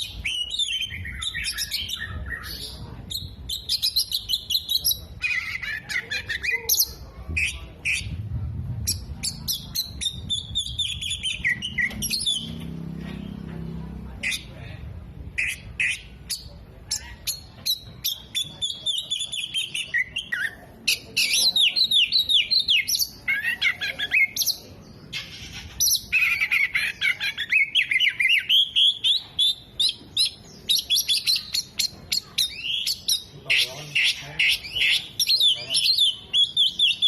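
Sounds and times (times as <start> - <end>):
bird singing varied song: 0.0 - 14.7, 15.3 - 37.0.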